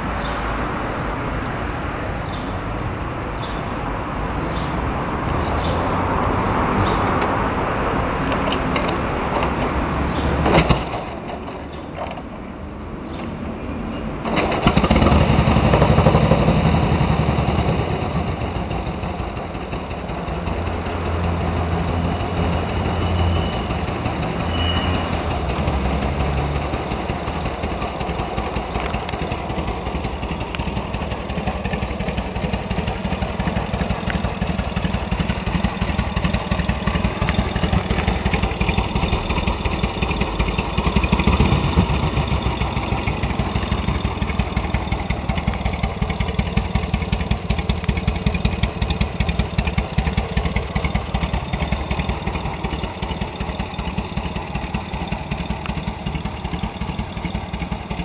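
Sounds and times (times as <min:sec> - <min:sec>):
motorcycle engine starting and idling: 0:03.4 - 0:58.0.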